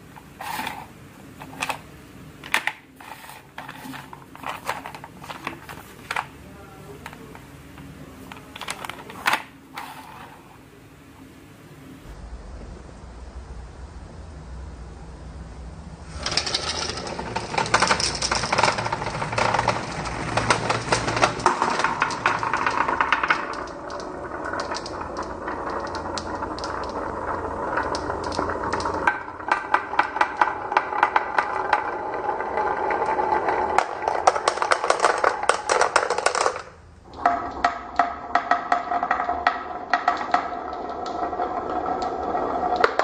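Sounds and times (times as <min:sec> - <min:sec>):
marbles rolling on wooden track: 0:00.4 - 0:01.8, 0:02.4 - 0:06.4, 0:08.3 - 0:10.5, 0:16.1 - 0:43.0.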